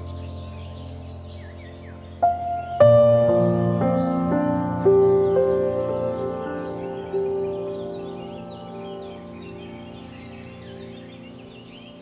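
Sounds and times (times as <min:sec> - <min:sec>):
ambient music low sustained chord: 0:00.0 - 0:12.0
bird chirps: 0:00.0 - 0:12.0.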